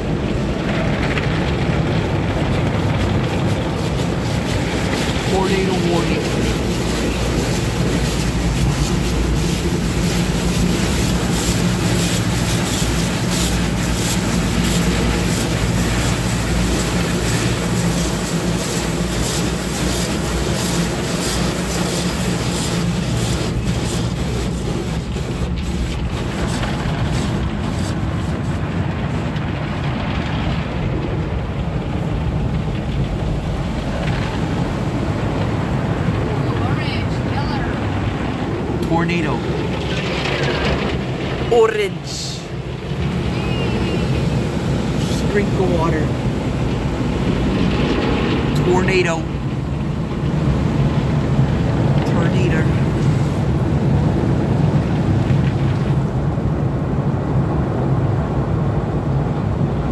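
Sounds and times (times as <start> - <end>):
car wash machinery hum: 0.0 - 59.9
water spraying on car: 0.0 - 59.9.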